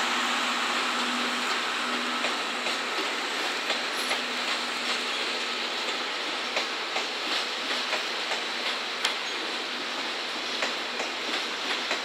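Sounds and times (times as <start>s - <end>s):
train wheels clicking over rail joints: 0.8s - 12.0s.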